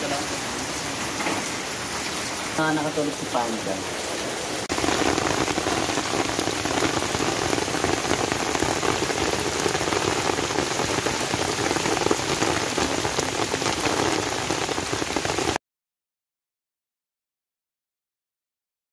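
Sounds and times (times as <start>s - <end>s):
rush of storm water: 0.0s - 15.6s.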